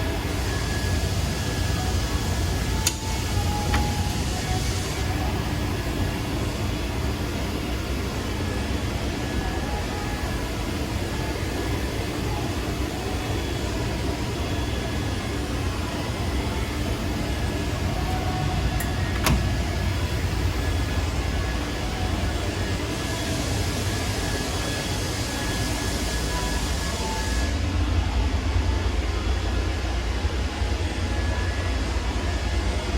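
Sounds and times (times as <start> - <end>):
machine running hum with whine: 0.0 - 32.9.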